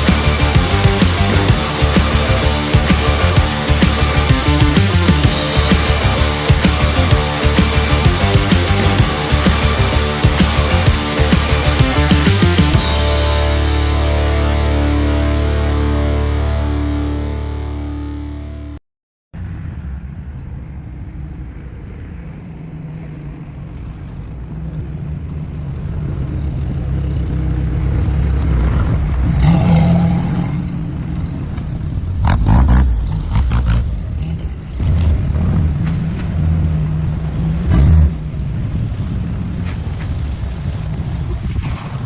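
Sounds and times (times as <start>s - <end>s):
off-road vehicle engine running: 0.0s - 17.1s, 22.0s - 42.0s.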